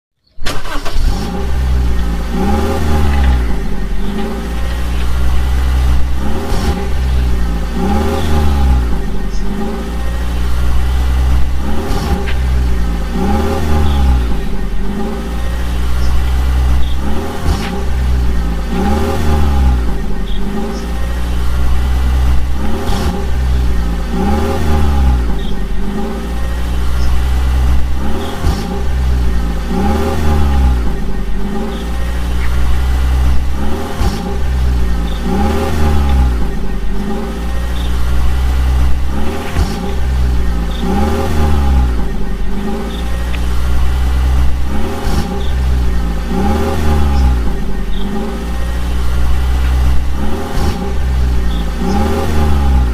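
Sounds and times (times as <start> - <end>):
vehicle engine revving: 0.4 - 52.9.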